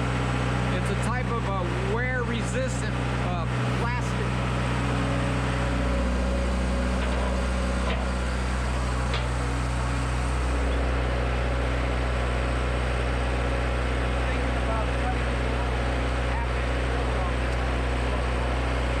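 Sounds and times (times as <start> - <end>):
large engine humming: 0.0 - 19.0.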